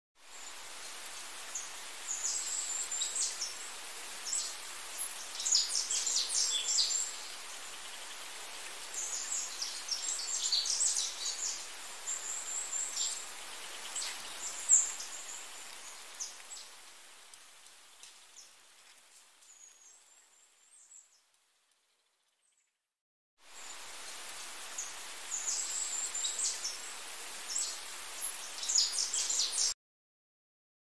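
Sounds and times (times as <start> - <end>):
steady rain-like hiss: 0.2 - 22.2, 23.4 - 29.8.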